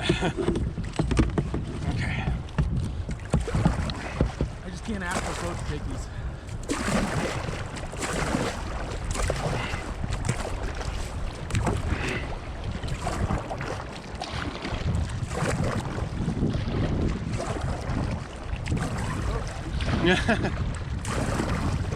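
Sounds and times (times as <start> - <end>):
wind rumble on microphone: 0.0 - 21.9
river water splashing: 1.7 - 21.9.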